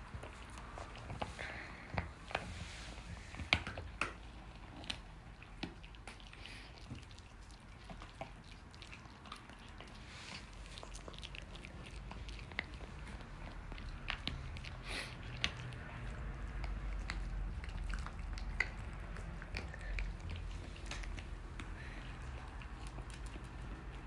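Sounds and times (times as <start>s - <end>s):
dog chewing with crunches: 0.0s - 24.0s.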